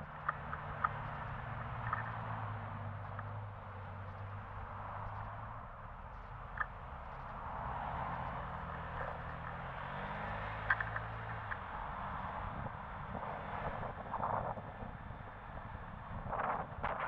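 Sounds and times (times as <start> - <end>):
low engine hum: 0.0 - 17.0
outdoor traffic noise: 0.0 - 17.0.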